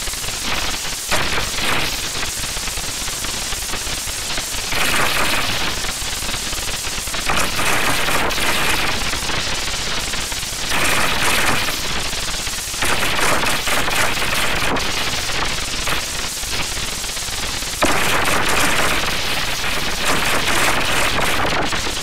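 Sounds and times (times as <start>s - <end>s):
harsh crackling noise: 0.0s - 3.0s, 3.7s - 22.0s.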